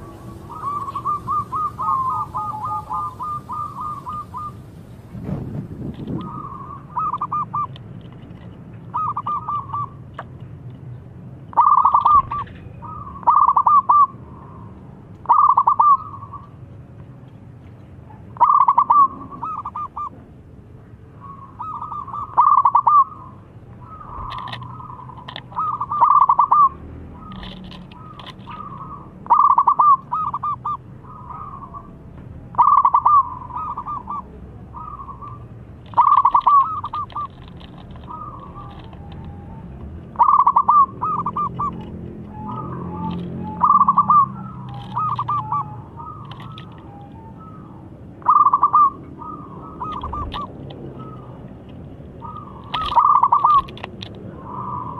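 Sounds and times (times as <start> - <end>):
dove cooing: 0.0 - 4.7, 6.0 - 7.8, 8.9 - 10.0, 11.5 - 14.6, 15.2 - 16.5, 18.4 - 20.2, 21.2 - 54.9.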